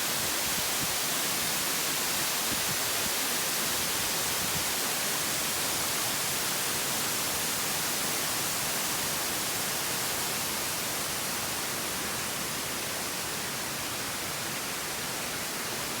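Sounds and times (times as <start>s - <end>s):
waterfall hissing: 0.0s - 16.0s.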